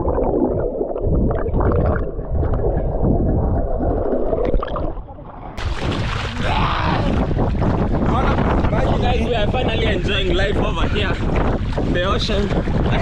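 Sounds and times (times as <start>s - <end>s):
underwater churning and gurgling: 0.0s - 13.0s
water splashing and rushing: 0.0s - 13.0s.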